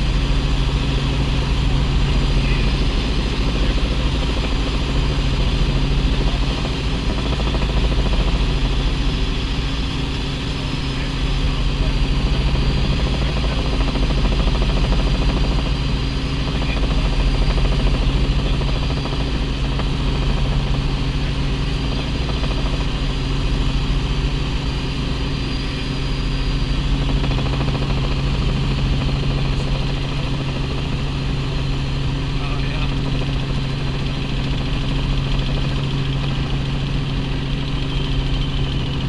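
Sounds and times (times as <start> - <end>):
helicopter cabin drone: 0.0 - 39.0.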